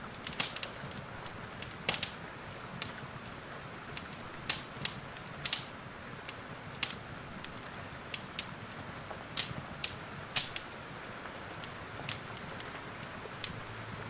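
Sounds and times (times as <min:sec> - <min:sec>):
rain hissing: 0:00.0 - 0:14.0
wood fire crackling and popping: 0:00.0 - 0:14.0.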